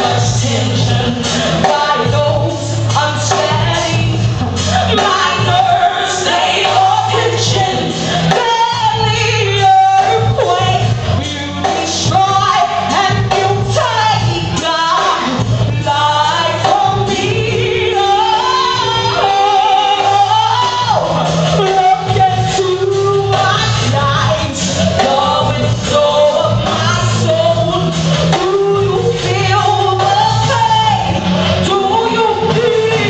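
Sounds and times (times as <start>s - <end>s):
backing music with bass line: 0.0s - 33.0s
woman singing into a microphone: 0.0s - 33.0s.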